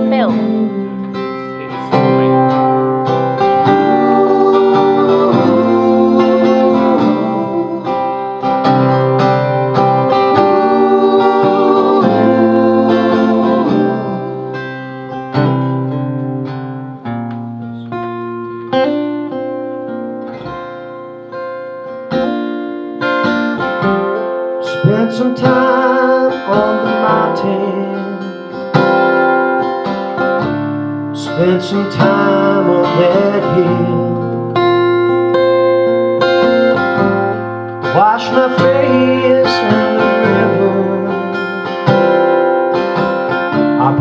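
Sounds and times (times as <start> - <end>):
strummed acoustic guitar: 0.0 - 44.0.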